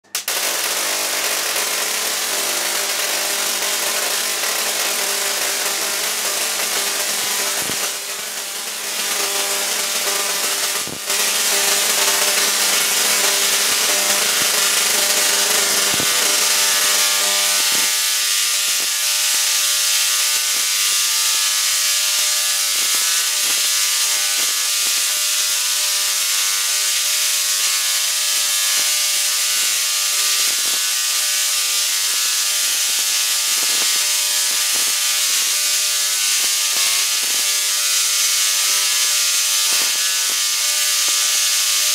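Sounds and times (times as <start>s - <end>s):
buzzing crackle of tesla coil sparks: 0.0s - 41.9s.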